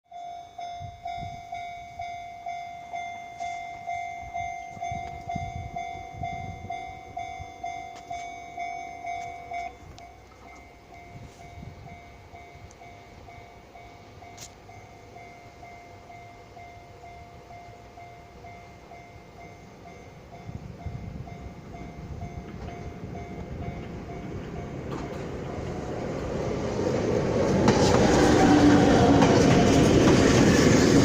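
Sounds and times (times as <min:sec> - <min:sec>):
level-crossing bell clanging: 0:00.1 - 0:27.9.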